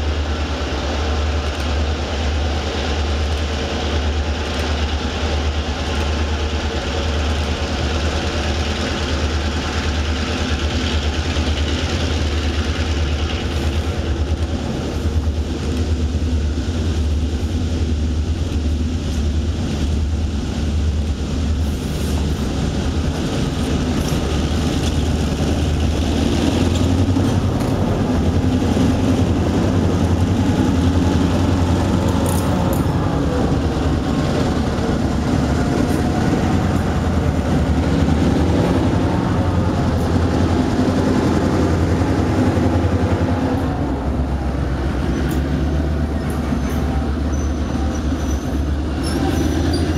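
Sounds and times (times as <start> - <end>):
diesel locomotive engines running: 0.0 - 49.9
freight cars rolling past: 0.0 - 49.9.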